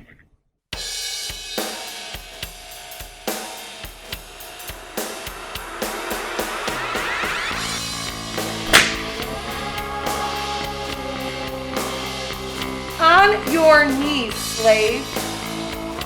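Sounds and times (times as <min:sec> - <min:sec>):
rock music with drum kit: 0:00.8 - 0:16.0.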